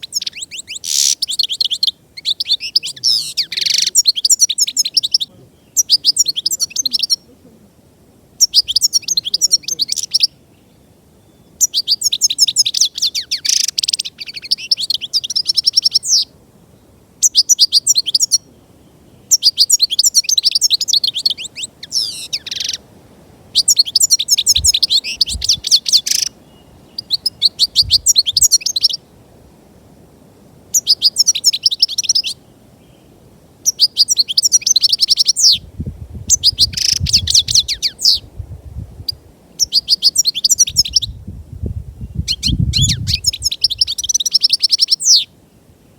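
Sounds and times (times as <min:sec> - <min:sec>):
goldfinch singing: 0:00.0 - 0:07.4, 0:08.4 - 0:16.3, 0:17.2 - 0:18.5, 0:19.3 - 0:22.8, 0:23.6 - 0:29.0, 0:30.7 - 0:32.4, 0:33.6 - 0:35.7, 0:36.3 - 0:38.3, 0:39.0 - 0:41.2, 0:42.0 - 0:45.3.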